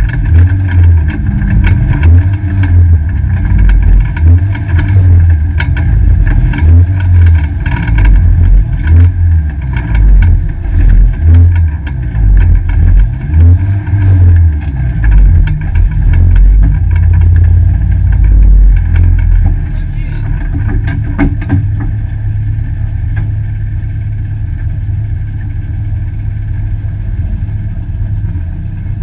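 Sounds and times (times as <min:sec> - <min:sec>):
rattles and knocks: 0:00.0 - 0:25.6
car engine rumbling at low revs: 0:00.0 - 0:29.0.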